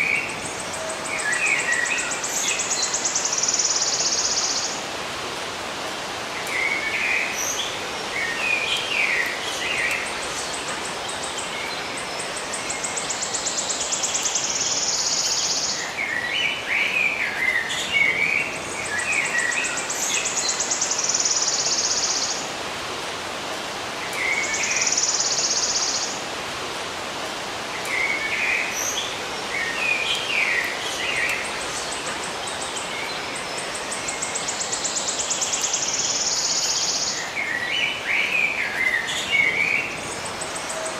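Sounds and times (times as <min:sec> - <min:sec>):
steady background hiss: 0:00.0 - 0:40.9.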